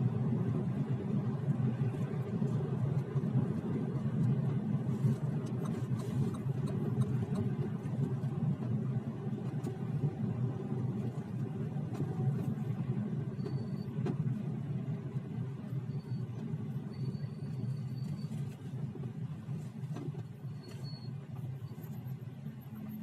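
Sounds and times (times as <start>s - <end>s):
car road rumble: 0.0s - 23.0s.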